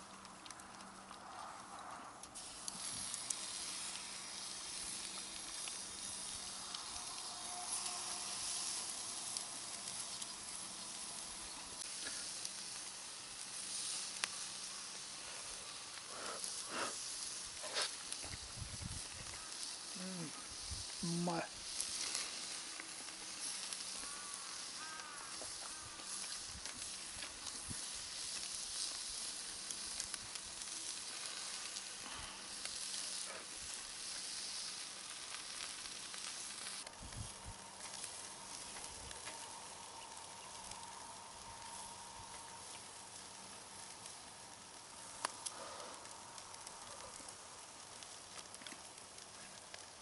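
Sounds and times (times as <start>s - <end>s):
food sizzling: 0.0s - 50.0s
small crackles and pops: 0.0s - 50.0s.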